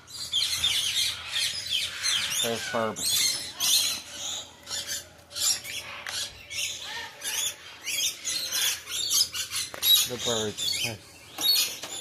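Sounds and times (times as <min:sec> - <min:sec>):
parrots screeching: 0:00.0 - 0:12.0.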